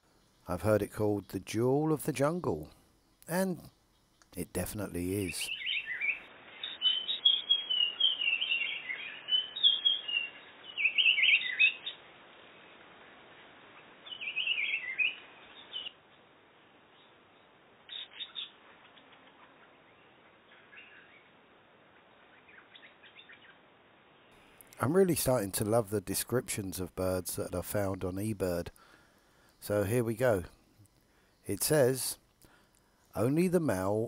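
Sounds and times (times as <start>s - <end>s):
birds chirping: 0.0s - 12.2s, 13.8s - 16.1s, 16.9s - 21.4s, 22.1s - 34.0s.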